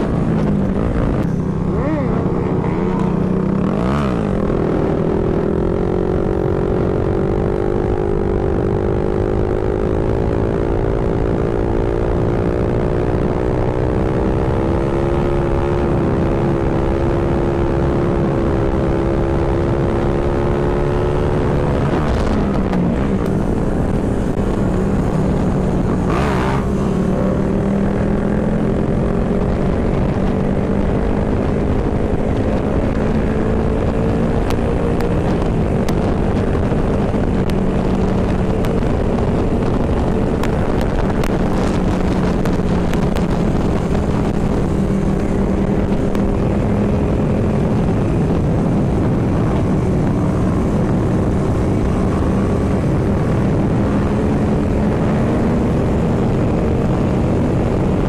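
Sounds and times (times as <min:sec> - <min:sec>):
wind rush: 0:00.0 - 0:58.0.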